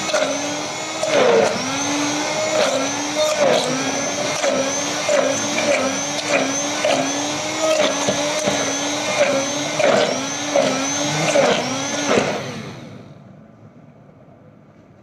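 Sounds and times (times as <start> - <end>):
hand blender motor running: 0.0 - 13.1.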